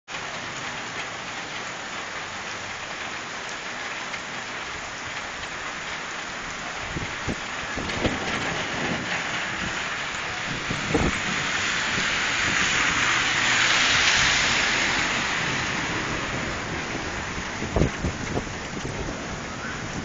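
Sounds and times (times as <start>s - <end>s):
steady rain hiss: 0.1s - 20.0s.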